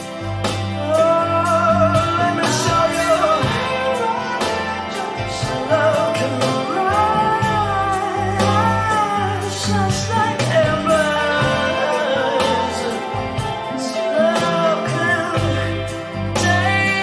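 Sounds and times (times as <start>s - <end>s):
guitar bass and drums: 0.0s - 17.0s
person singing: 0.0s - 17.0s.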